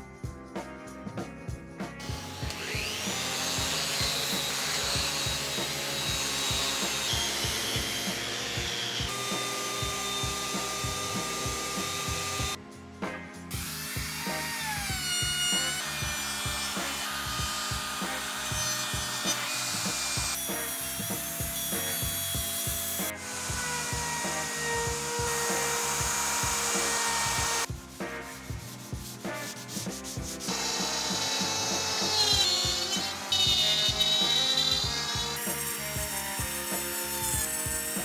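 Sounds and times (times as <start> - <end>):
electric router cutting wood: 2.1 - 12.6, 13.5 - 27.7, 30.4 - 38.0.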